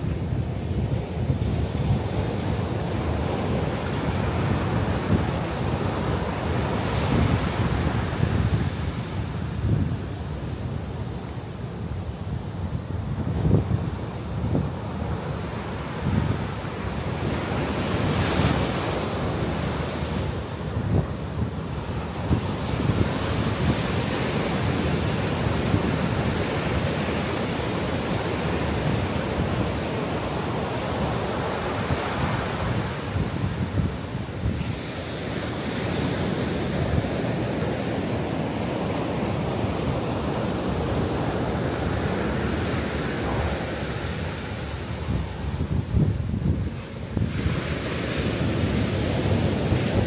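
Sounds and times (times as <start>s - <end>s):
ocean surf breaking on beach: 0.0s - 50.0s
wind buffeting microphone: 0.0s - 50.0s.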